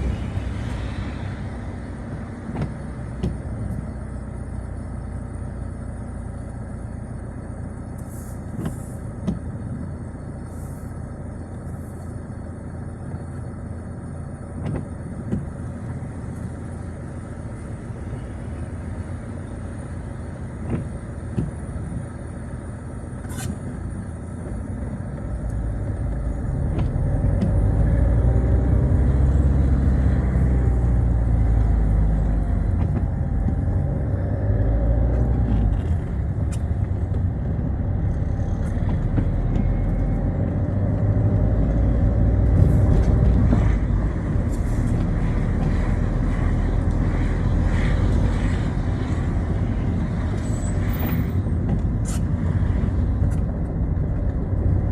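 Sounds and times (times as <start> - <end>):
car driving on wet road: 0.0 - 54.9.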